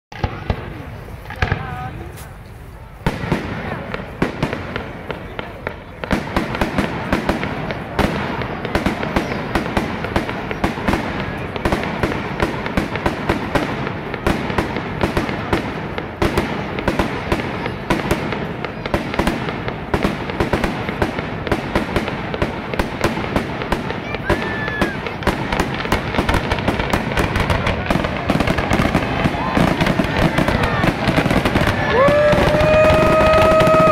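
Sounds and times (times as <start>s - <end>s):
fireworks bursting: 0.1s - 33.9s.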